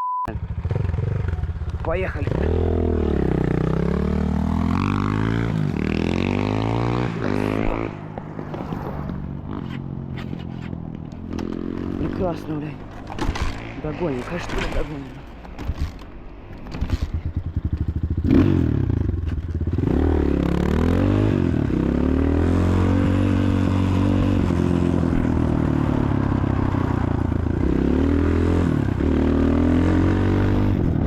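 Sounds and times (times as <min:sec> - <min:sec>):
motorcycle engine revving: 0:00.3 - 0:31.0.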